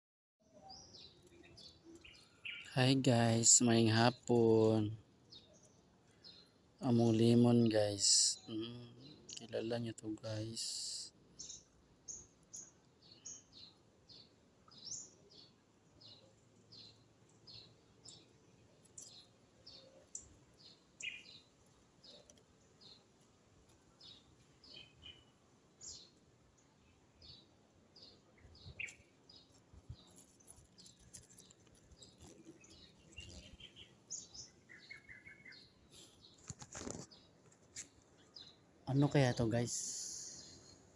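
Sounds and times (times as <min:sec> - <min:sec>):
faint bird chirping: 0:00.4 - 0:40.9.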